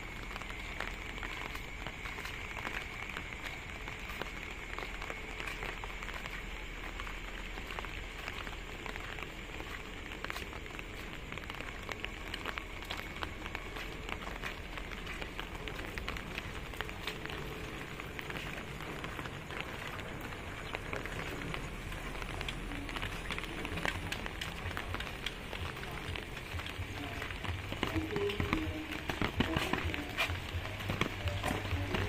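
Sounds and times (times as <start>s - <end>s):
light rain drizzle: 0.0s - 32.0s.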